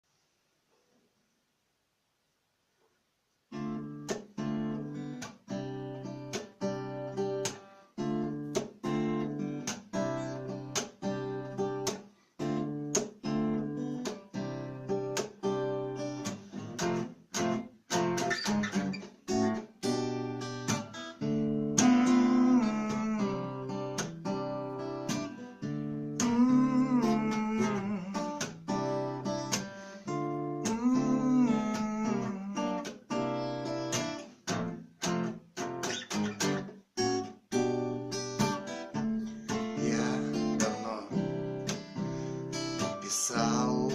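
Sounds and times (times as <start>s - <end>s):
acoustic guitar strumming: 3.5s - 43.9s.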